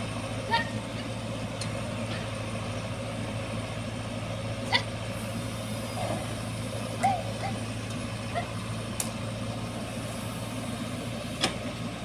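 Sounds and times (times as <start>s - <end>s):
diesel engine of heavy machinery: 0.0s - 12.0s.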